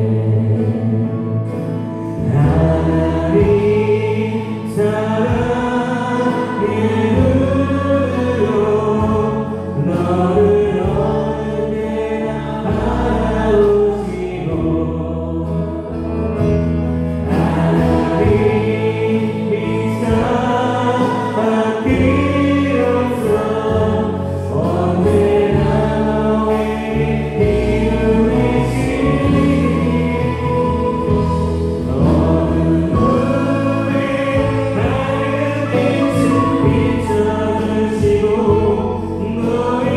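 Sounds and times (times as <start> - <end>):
bass guitar: 0.0 - 39.9
drums: 0.0 - 39.9
group of voices singing: 0.0 - 39.9
keyboard: 0.0 - 39.9.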